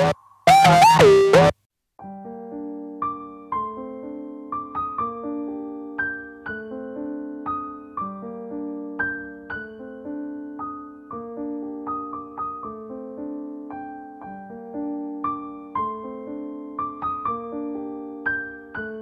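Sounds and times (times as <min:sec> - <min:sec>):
soft piano piece: 0:00.0 - 0:19.0.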